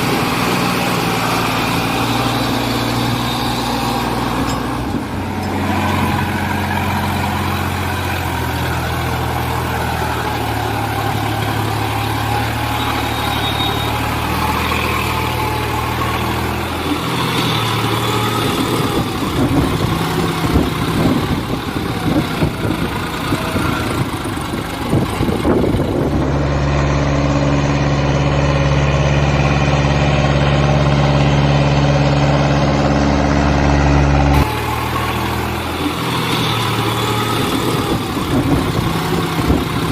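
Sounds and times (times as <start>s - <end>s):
steady engine hum: 0.0s - 39.9s
vehicle engine idling: 0.0s - 39.9s.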